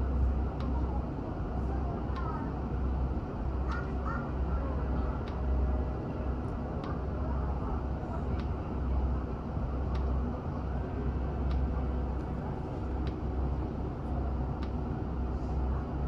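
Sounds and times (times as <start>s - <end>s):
diesel railcar rumbling: 0.0s - 16.0s.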